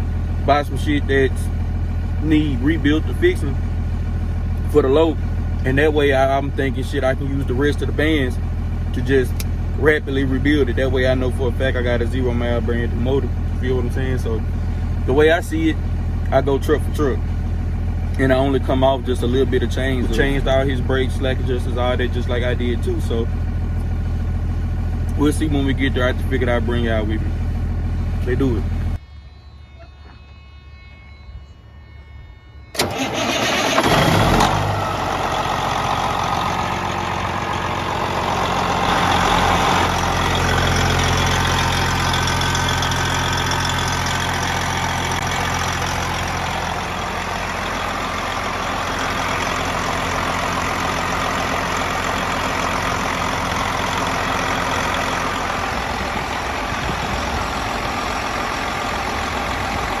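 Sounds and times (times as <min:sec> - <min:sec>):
vehicle engine starting and idling: 0:00.0 - 0:29.0, 0:32.7 - 1:00.0.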